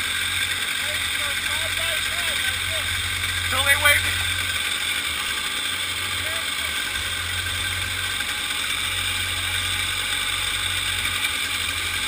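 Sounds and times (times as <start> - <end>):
two-stroke kart engines idling: 0.0 - 12.0.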